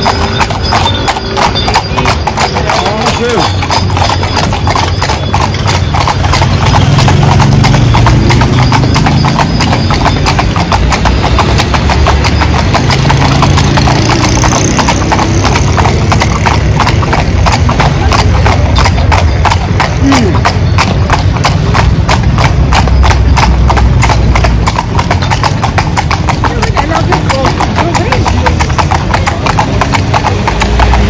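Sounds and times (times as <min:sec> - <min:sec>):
horse hooves clip-clopping on pavement: 0:00.0 - 0:31.0.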